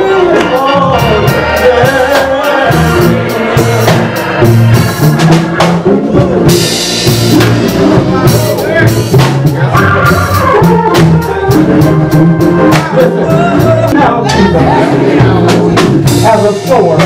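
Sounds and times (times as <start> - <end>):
gospel band playing: 0.0 - 17.0
man singing: 0.0 - 17.0.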